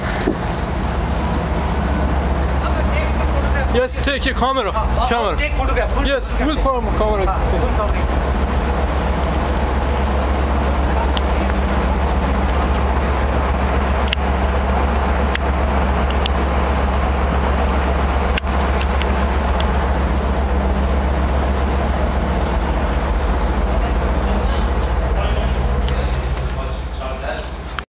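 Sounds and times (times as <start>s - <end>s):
wind: 0.0s - 27.8s
ship engine rumble: 0.0s - 27.9s.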